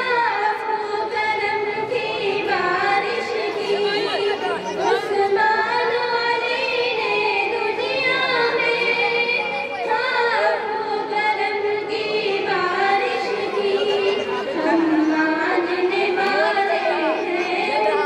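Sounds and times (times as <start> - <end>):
girls singing together: 0.0 - 18.0.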